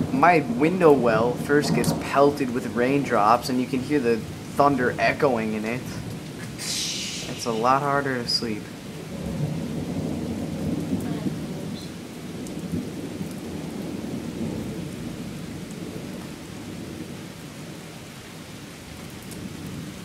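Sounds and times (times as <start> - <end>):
thunder rumbling: 0.0 - 18.1
heavy rain: 0.0 - 20.0.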